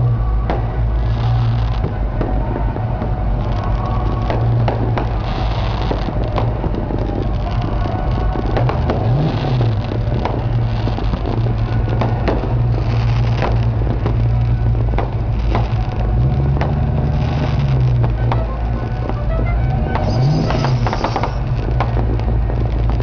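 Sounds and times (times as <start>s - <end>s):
car engines revving: 0.0s - 23.0s
fireworks cracking: 0.0s - 23.0s.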